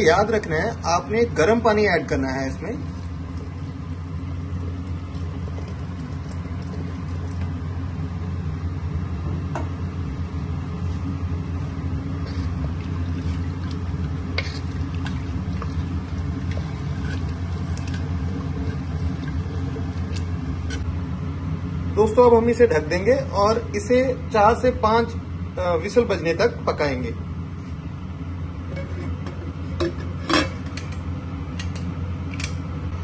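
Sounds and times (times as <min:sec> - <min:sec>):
low rumble and hum: 0:00.0 - 0:33.0.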